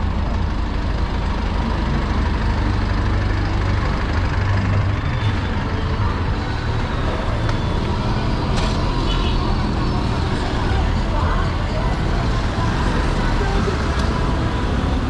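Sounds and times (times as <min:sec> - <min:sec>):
street traffic: 0:00.0 - 0:15.0
vehicle engine running: 0:00.0 - 0:15.0.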